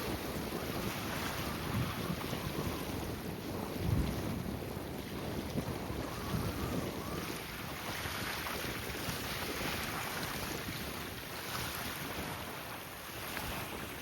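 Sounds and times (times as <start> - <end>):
waves washing: 0.0 - 14.0
wind buffeting microphone: 0.0 - 14.0.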